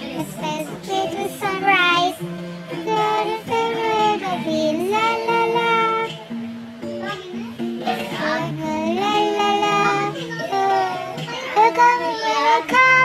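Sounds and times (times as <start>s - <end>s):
high singing voice with vibrato: 0.0s - 6.2s, 7.8s - 13.0s
music: 0.0s - 13.0s.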